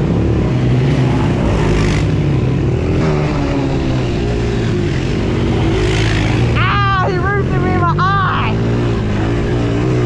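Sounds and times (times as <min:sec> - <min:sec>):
off-road engines running: 0:00.0 - 0:10.0.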